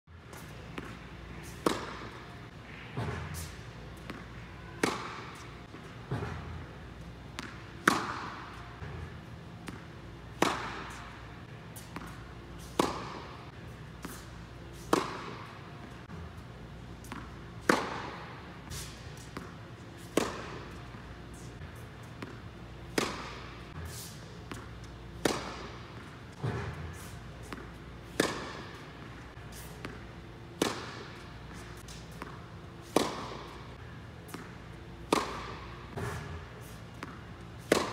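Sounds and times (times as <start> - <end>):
steady low hum: 0.1 - 37.9
tennis balls struck by racquet: 0.3 - 16.3, 16.9 - 37.9.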